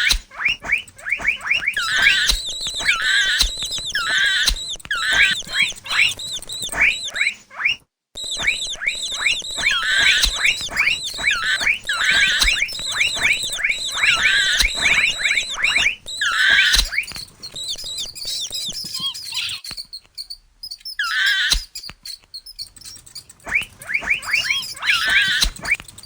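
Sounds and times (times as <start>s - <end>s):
high-pitched mouse squeaks: 0.0s - 26.0s
warbling squeaks: 0.0s - 26.0s.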